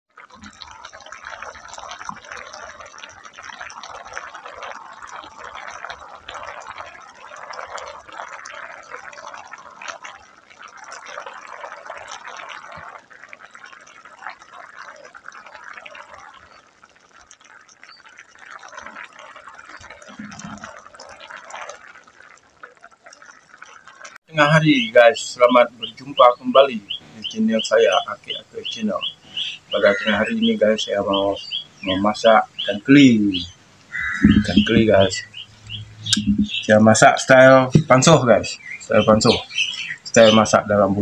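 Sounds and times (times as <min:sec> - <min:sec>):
stew bubbling and popping: 0:00.1 - 0:41.0.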